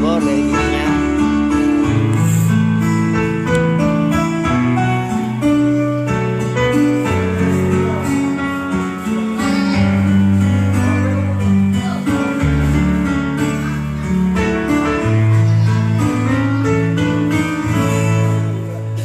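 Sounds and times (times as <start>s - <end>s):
bass line: 0.0s - 19.0s.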